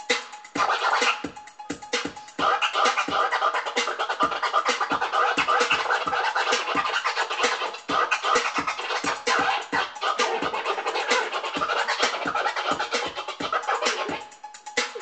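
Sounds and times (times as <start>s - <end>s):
electronic music with thumping beat: 0.0s - 15.0s
record scratching on turntable: 0.1s - 1.4s, 2.0s - 15.0s.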